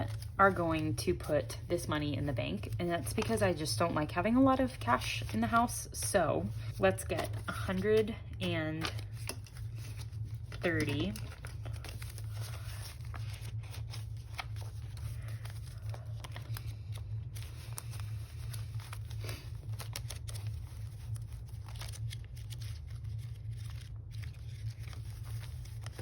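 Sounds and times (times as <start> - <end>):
paper bills rustling: 0.0 - 0.8, 2.2 - 26.0
steady low hum: 0.0 - 26.0.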